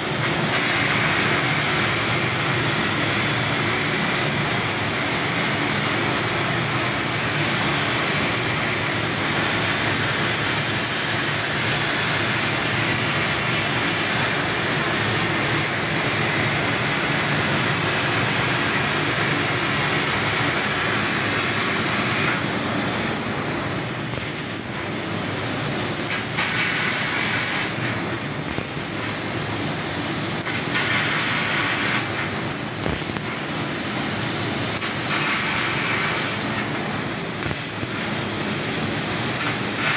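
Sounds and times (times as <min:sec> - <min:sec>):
laser cutter hissing: 0:00.0 - 0:39.9.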